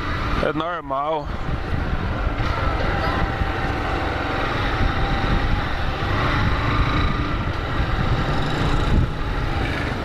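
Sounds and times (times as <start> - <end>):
wind and road noise: 0.0 - 10.0
motorcycle engine running: 1.4 - 10.0.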